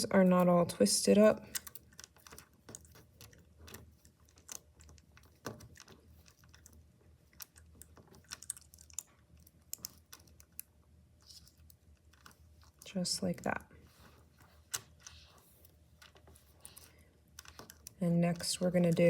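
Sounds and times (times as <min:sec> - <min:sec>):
plastic beads clicking and rustling: 0:01.5 - 0:13.0, 0:14.4 - 0:19.0.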